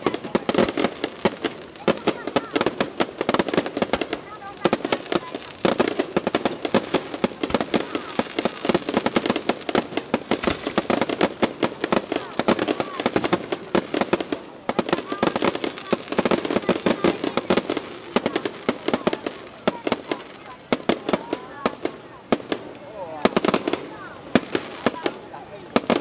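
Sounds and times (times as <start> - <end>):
fireworks crackling and popping: 0.0 - 26.0.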